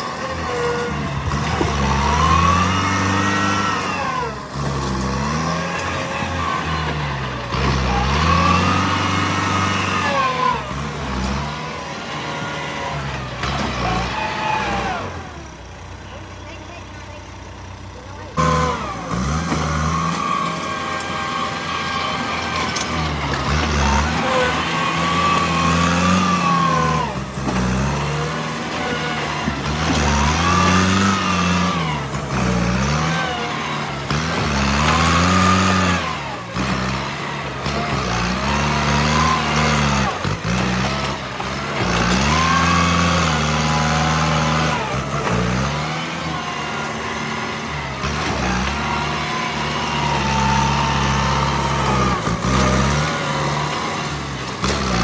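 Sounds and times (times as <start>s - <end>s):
bulldozer diesel engine revving: 0.0s - 55.0s.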